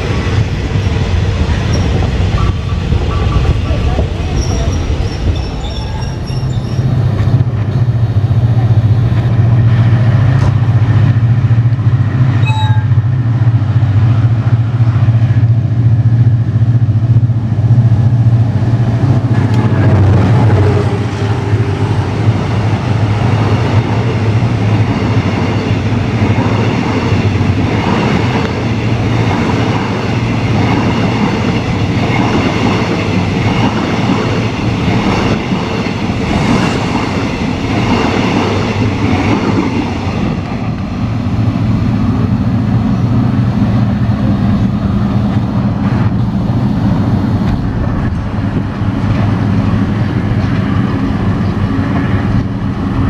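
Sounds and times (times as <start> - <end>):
locomotive engine drone: 0.0 - 53.0.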